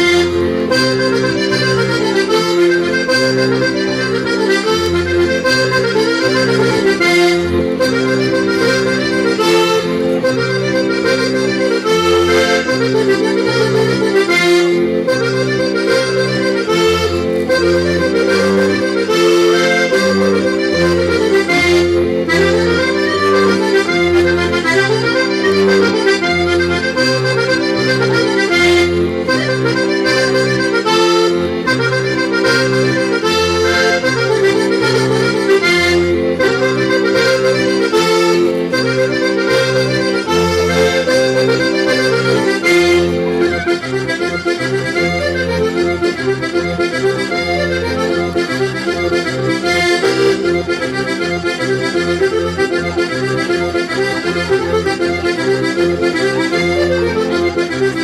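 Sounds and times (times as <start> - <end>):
accordion dance music: 0.0 - 58.0.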